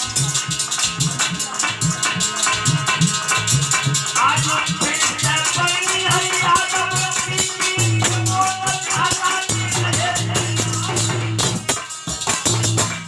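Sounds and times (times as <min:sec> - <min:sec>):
drum beat: 0:00.0 - 0:13.0
jingling shaker percussion: 0:00.0 - 0:13.0.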